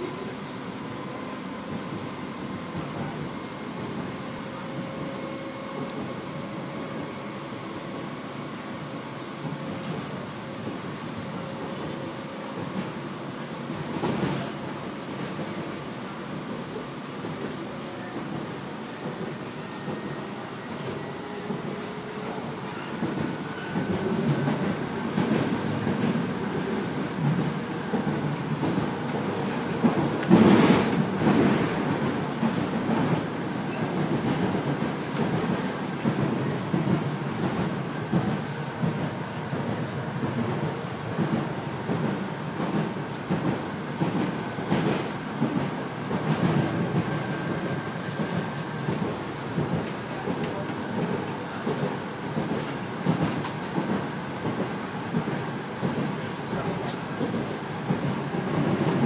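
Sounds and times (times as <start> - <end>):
train car rumble on track: 0.0 - 59.0.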